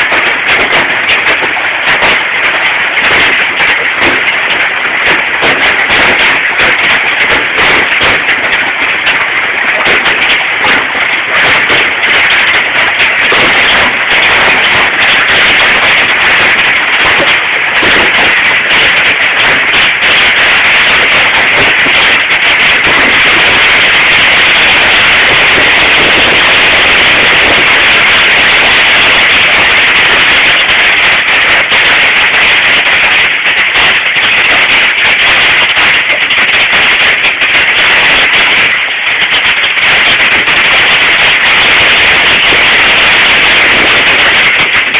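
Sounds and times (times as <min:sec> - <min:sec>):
hailstones pelting down: 0:00.0 - 0:44.9.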